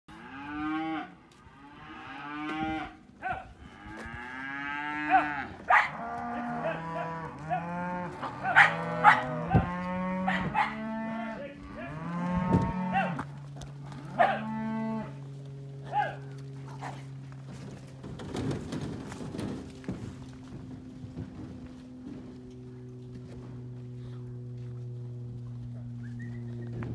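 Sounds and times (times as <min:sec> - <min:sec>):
cattle mooing and bellowing: 0:00.1 - 0:26.9.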